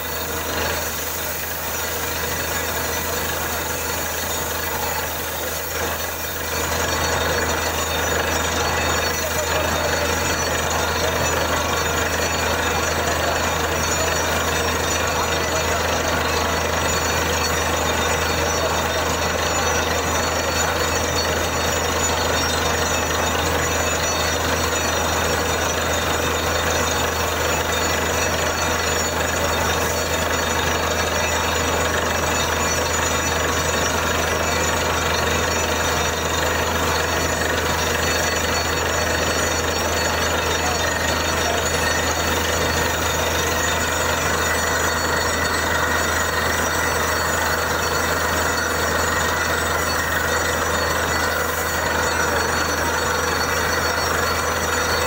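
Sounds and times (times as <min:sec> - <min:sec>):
drilling rig running: 0:00.0 - 0:55.0.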